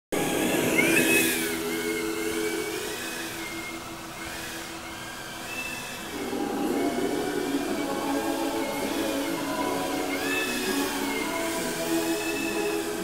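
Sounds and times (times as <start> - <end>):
drone propellers whining: 0.1 - 13.0.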